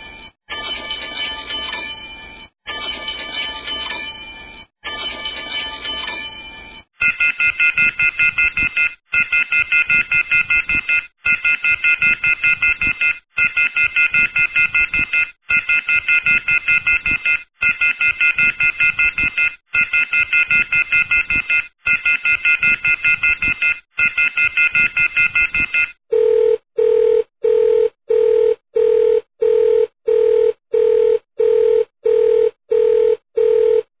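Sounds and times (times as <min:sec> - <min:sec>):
electronic telephone ringer trilling: 0:00.0 - 0:33.9
telephone busy tone beeping: 0:04.9 - 0:33.9.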